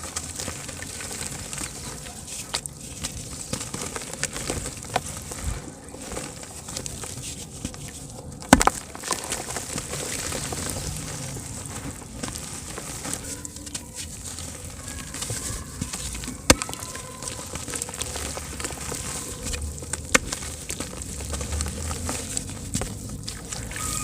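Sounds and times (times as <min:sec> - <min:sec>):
dirt crumbling in water: 0:00.0 - 0:24.0.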